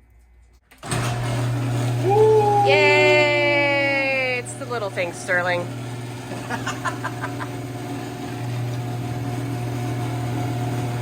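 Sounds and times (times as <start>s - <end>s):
garage door opener motor hum: 0.7s - 11.0s.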